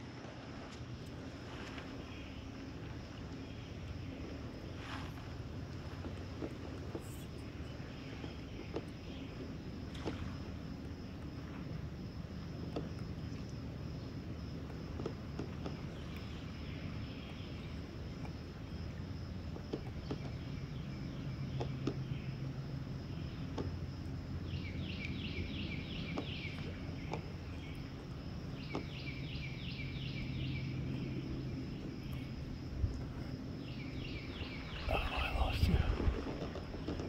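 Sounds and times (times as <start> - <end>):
high insect drone: 0.2 - 37.0.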